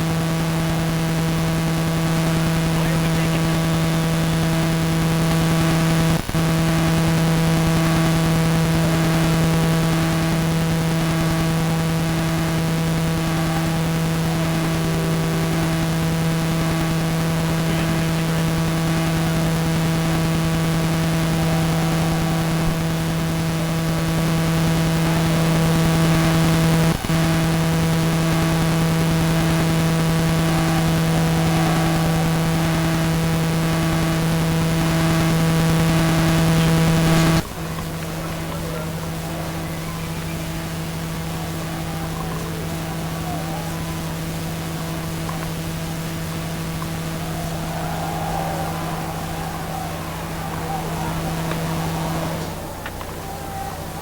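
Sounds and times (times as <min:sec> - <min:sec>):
low electrical buzz: 0:00.0 - 0:54.0.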